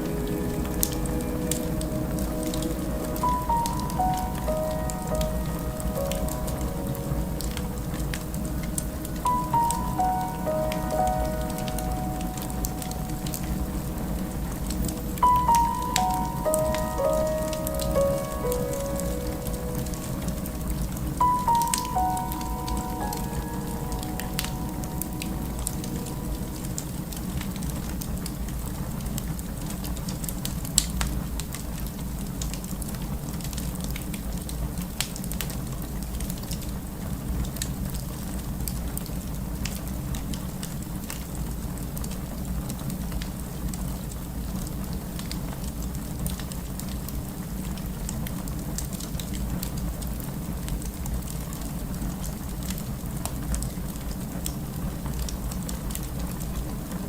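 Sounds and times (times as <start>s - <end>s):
fire crackling in fireplace: 0.0s - 57.0s.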